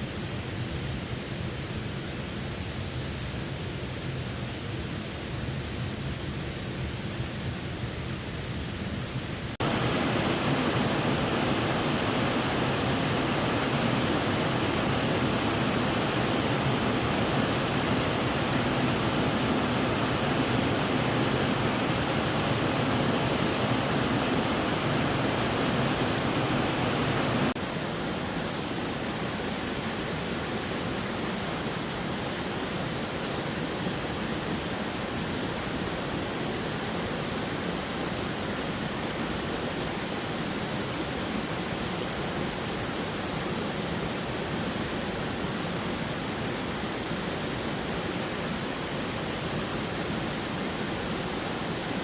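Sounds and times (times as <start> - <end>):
rushing water roar: 9.6 - 52.0.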